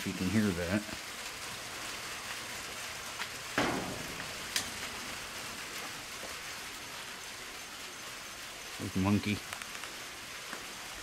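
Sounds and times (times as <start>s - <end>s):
raindrops tapping: 0.0s - 11.0s
steady rain: 0.0s - 11.0s.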